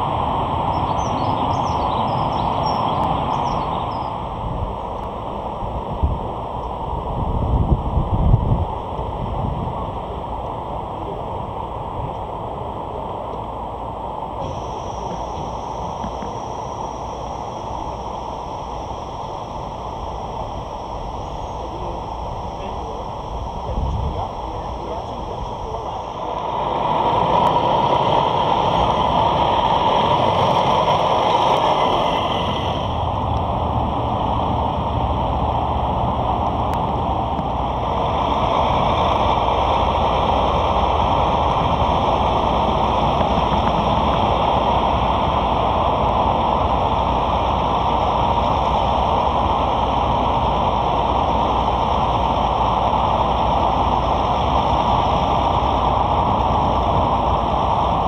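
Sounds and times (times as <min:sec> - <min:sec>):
constant rushing noise: 0:00.0 - 0:58.0
diesel truck engine running: 0:00.0 - 0:58.0.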